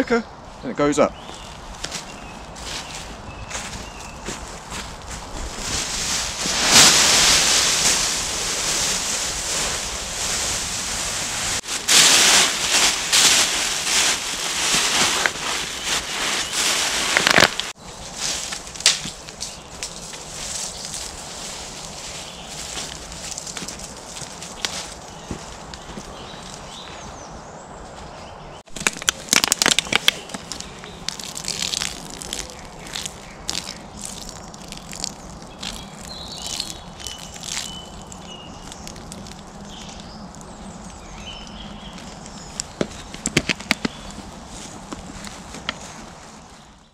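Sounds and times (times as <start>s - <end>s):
space blankets crinkling: 1.2s - 27.1s, 28.6s - 46.9s
footsteps crunching dry leaves: 1.2s - 27.2s, 27.9s - 46.9s.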